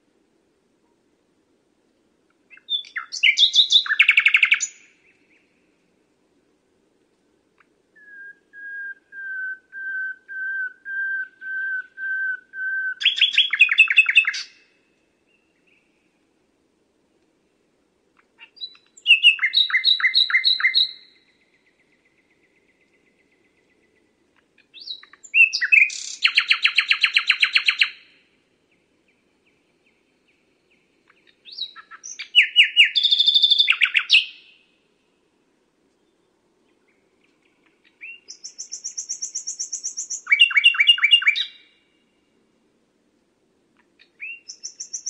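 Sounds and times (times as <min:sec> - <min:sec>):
nightingale singing: 0:02.3 - 0:05.8, 0:07.6 - 0:16.2, 0:18.2 - 0:35.3, 0:35.9 - 0:42.4, 0:43.8 - 0:45.0.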